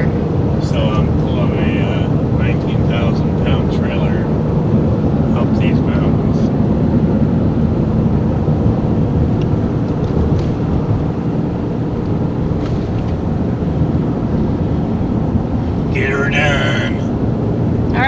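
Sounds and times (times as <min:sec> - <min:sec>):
road and engine noise in vehicle: 0:00.0 - 0:18.0.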